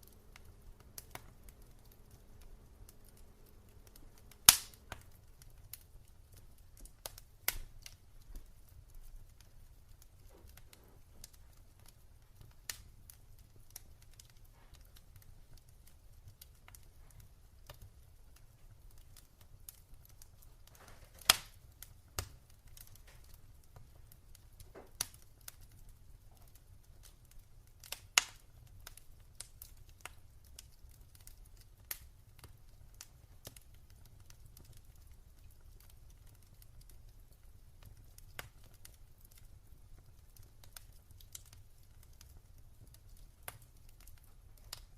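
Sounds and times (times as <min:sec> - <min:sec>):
low fire rumble: 0:00.0 - 0:44.9
wood fire crackling and popping: 0:00.0 - 0:44.9.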